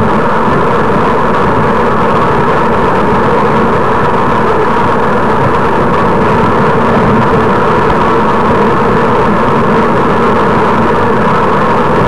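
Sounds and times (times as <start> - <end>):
bicycle road noise: 0.0 - 12.0
wind rush: 0.0 - 12.0.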